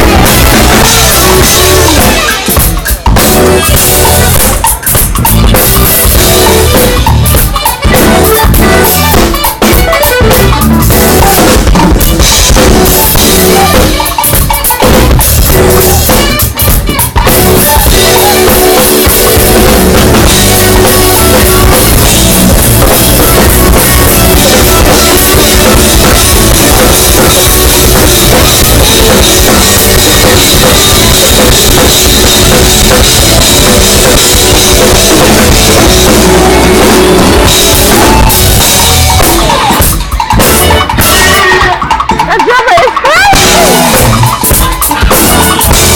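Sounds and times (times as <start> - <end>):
drum kit: 0.0 - 45.9
live band playing: 0.0 - 45.9.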